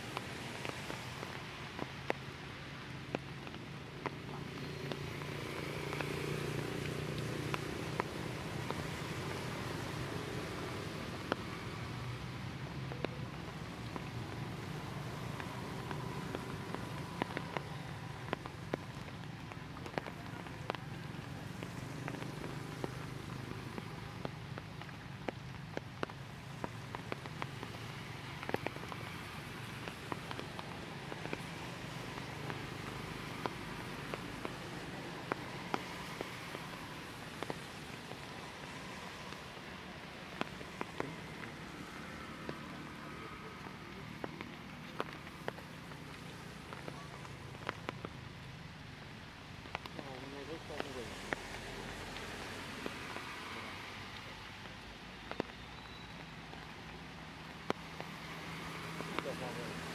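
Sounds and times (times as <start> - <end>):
water dripping from trees: 0.0 - 59.9.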